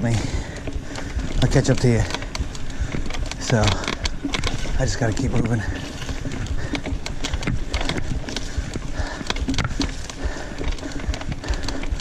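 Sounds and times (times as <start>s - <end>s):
mountain bike knocks and rattles: 0.0s - 12.0s
tyre noise: 0.0s - 12.0s
wind noise: 0.0s - 12.0s.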